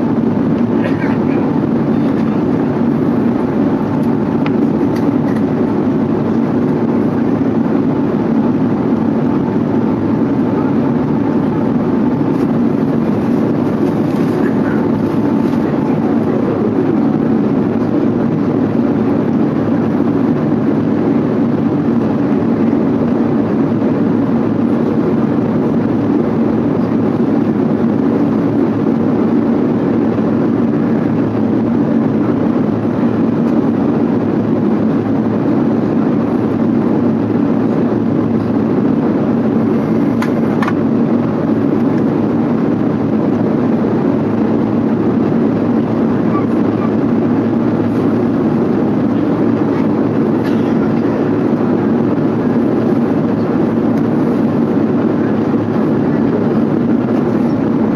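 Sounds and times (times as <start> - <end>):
airplane cabin jet roar: 0.0 - 57.9.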